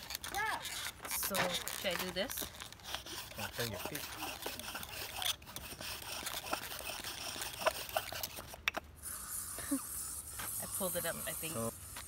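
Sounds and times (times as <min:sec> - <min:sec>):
bow drill scratchy rubbing: 0:00.0 - 0:12.0.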